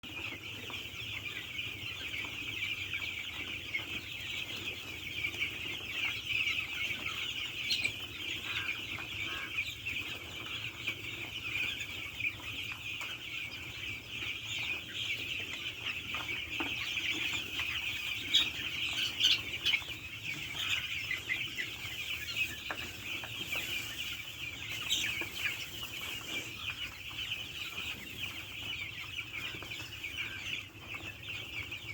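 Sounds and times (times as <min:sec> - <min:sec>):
poultry flock clucking and chirping: 0:00.0 - 0:31.9.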